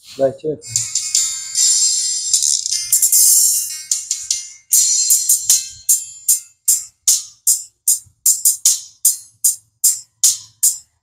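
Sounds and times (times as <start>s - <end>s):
crisp treble percussion hits: 0.6s - 10.8s.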